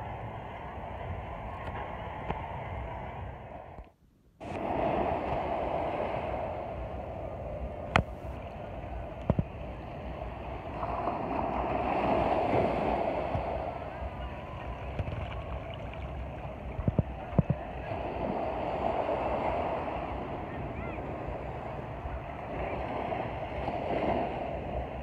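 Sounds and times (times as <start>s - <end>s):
surf washing in and out: 0.0s - 25.0s.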